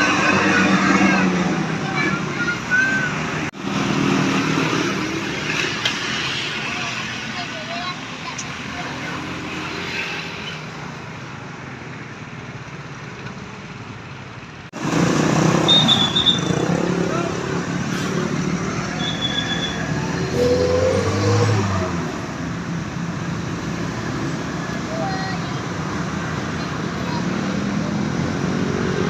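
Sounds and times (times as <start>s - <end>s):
vehicles passing on road: 0.0s - 29.0s.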